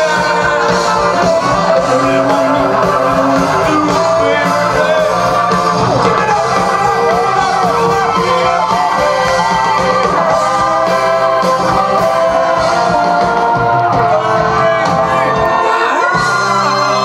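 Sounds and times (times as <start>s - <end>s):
electric guitar: 0.0s - 17.0s
live rock band playing: 0.0s - 17.0s
person singing: 0.0s - 17.0s.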